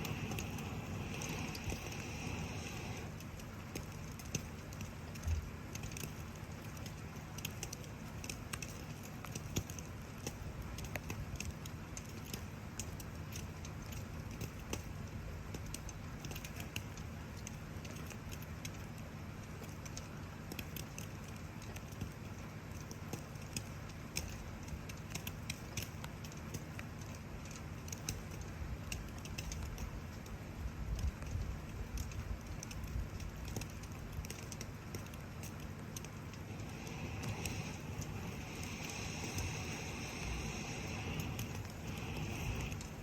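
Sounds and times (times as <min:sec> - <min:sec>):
campfire crackling and popping: 0:00.0 - 0:43.0
falling rain hiss: 0:00.0 - 0:43.0.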